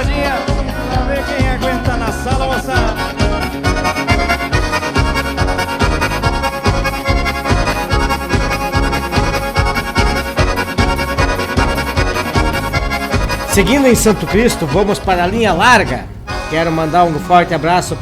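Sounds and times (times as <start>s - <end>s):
driving drum and bass beat: 0.0s - 10.9s, 12.3s - 18.0s
band music with accordion: 0.0s - 18.0s.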